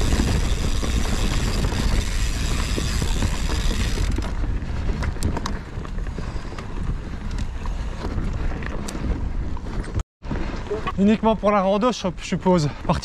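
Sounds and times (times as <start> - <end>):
wind on microphone: 0.0 - 11.1
bike tyre rumble on dirt: 0.0 - 13.0.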